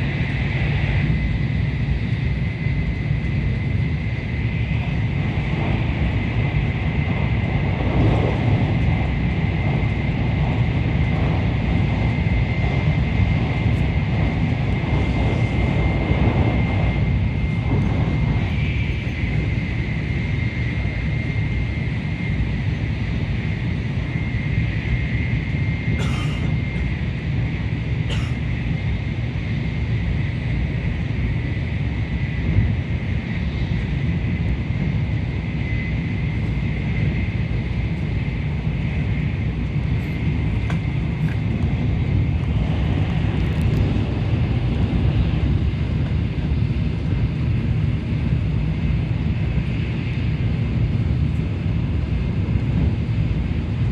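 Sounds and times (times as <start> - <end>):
train running at speed: 0.0 - 53.9.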